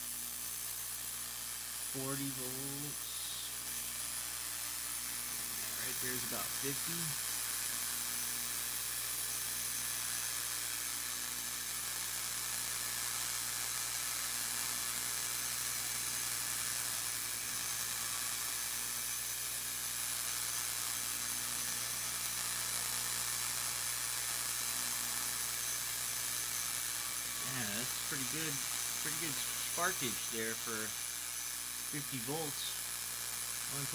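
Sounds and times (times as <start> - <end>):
blower motor whir: 0.0 - 33.9
low electrical hum: 0.0 - 33.9
spark gap sparks hissing: 0.0 - 33.9.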